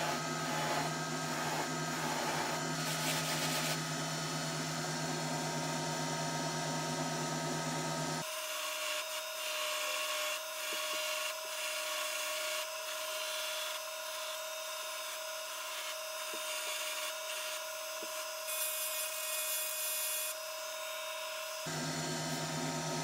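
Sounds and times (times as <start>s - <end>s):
power tool motor running: 0.0s - 4.0s, 8.2s - 23.0s.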